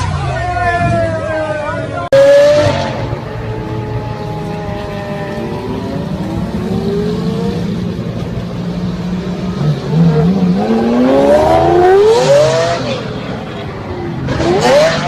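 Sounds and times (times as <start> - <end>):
supercar engines revving: 0.0 - 15.0.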